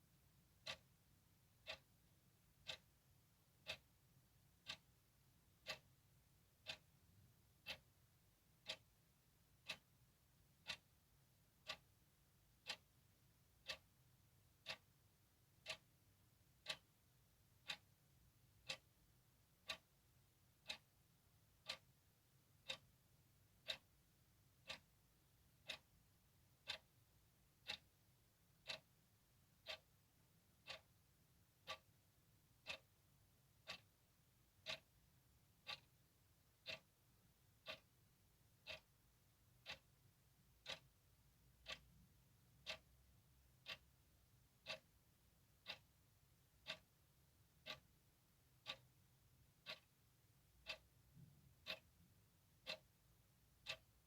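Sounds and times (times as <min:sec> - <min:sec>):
clock ticking: 0:00.2 - 0:54.0.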